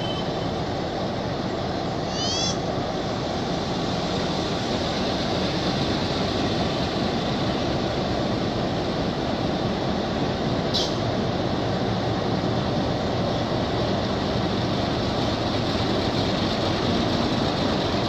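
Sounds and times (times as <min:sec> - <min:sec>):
diesel locomotive engine: 0:00.0 - 0:18.0.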